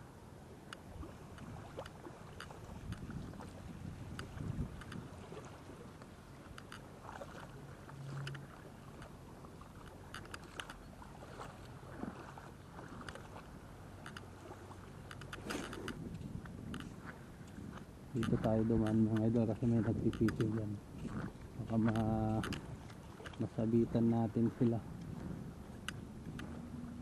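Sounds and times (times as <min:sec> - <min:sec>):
water splashing against hull: 0:00.0 - 0:27.0
paddle strokes: 0:00.4 - 0:27.0.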